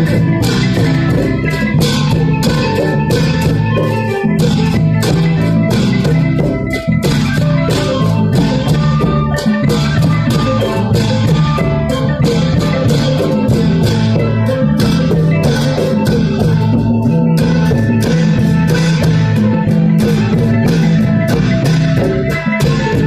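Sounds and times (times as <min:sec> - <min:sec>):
mallet percussion: 0:00.0 - 0:23.0.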